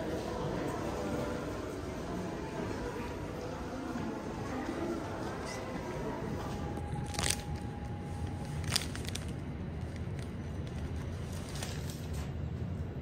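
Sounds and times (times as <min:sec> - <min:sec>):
elevator low rumble: 0:00.0 - 0:13.0.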